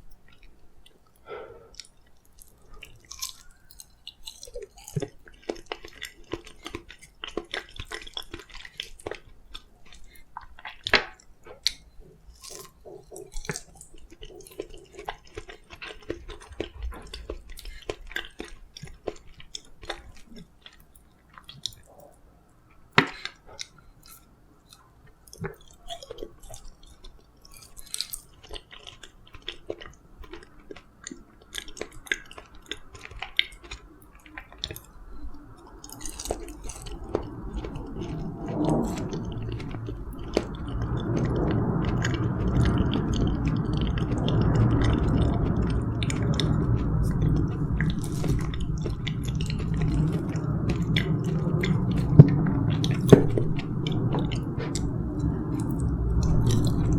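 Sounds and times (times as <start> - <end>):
chewing with wet mouth sounds: 0.0 - 56.9.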